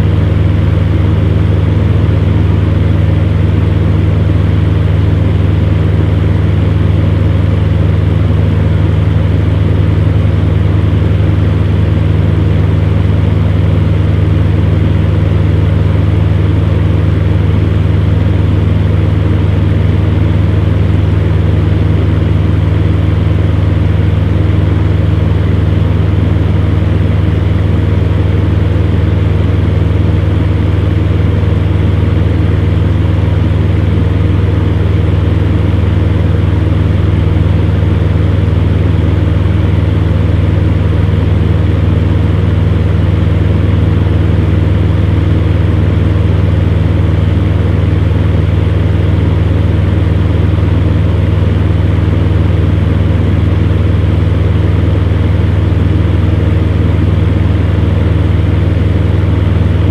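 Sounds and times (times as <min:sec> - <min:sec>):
fan heater humming: 0:00.0 - 0:59.9.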